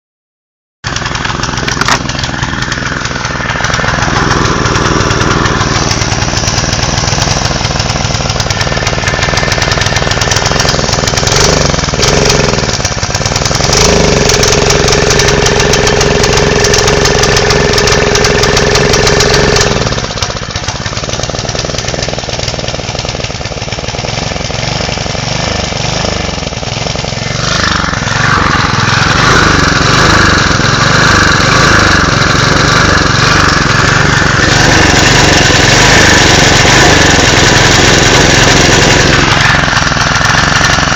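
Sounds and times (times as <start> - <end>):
small petrol engine running: 0.8 - 40.9.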